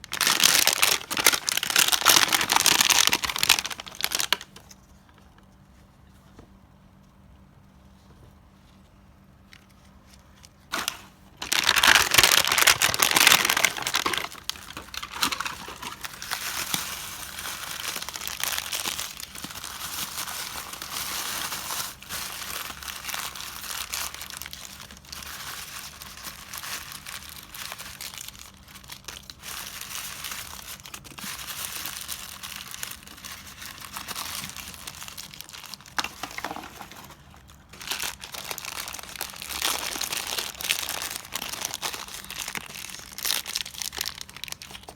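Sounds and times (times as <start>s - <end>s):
packaging crinkling and tearing: 0.0s - 5.6s, 9.5s - 44.9s.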